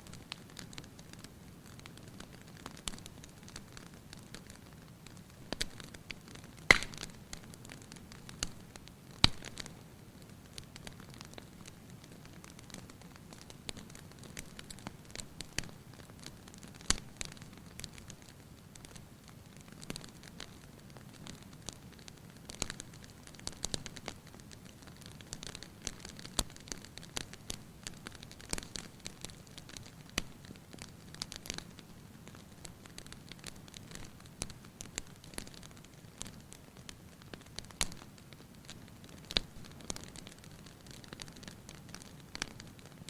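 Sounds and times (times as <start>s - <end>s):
fireplace fire crackling: 0.0s - 43.0s
low rumble of fire: 0.0s - 43.0s.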